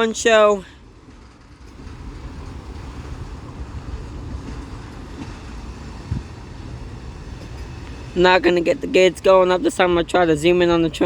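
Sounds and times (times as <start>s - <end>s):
freight train rumble: 0.0s - 11.0s
wind buffeting microphone: 0.0s - 11.0s.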